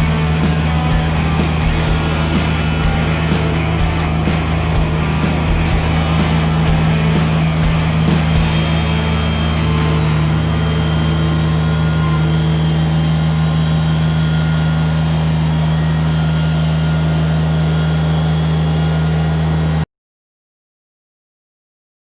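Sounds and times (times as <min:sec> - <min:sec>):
tractor diesel engine running: 0:00.0 - 0:19.4.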